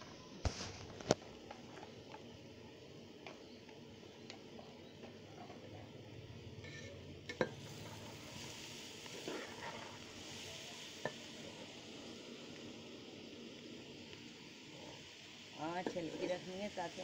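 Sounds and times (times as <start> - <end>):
cabbage sizzling in oil: 0.4 - 17.0.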